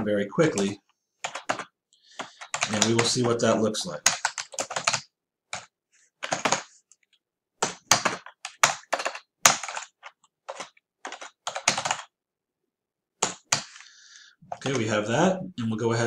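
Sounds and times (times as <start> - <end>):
computer keyboard typing: 0.5 - 12.2, 13.2 - 13.8, 14.4 - 15.0.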